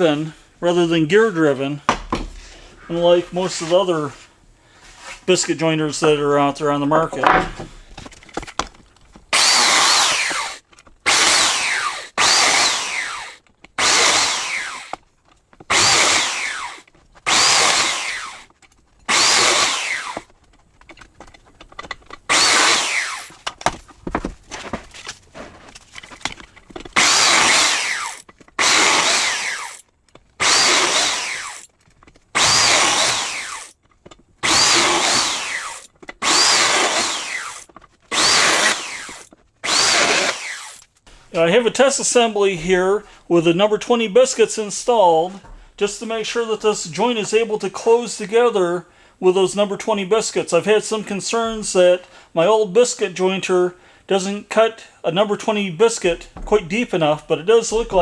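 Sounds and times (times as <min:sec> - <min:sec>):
biscuit jointer cutting wood: 0:01.1 - 0:48.4, 0:49.4 - 0:52.2, 0:55.2 - 0:58.0.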